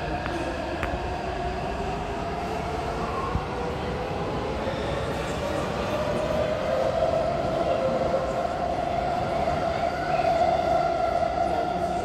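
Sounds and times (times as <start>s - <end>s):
train rolling and running: 0.0s - 12.0s.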